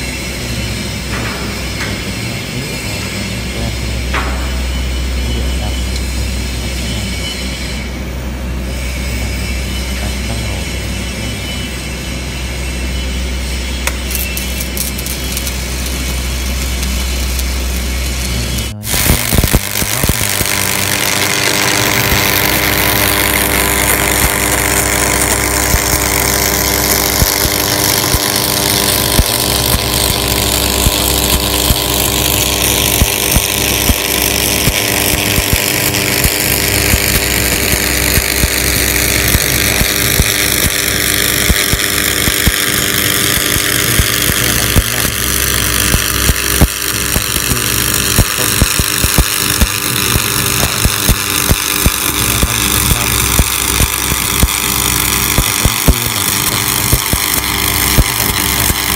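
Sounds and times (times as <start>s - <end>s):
electrical hum: 0.0s - 58.9s
welding arc crackling: 8.8s - 58.9s.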